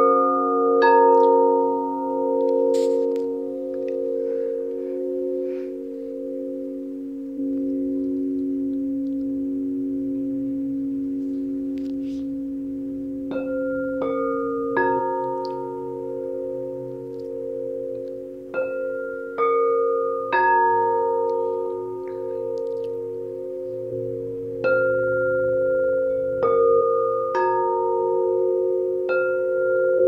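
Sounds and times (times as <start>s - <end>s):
singing bowls ringing: 0.0s - 30.0s
singing bowls struck: 0.0s - 30.0s.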